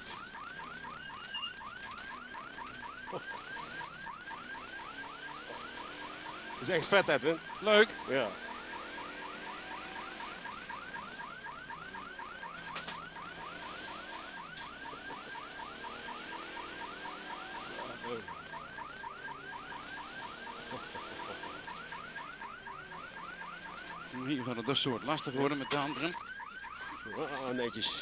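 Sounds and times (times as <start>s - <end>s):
electronic siren yelping: 0.0s - 28.0s
faint car engine: 0.0s - 28.0s.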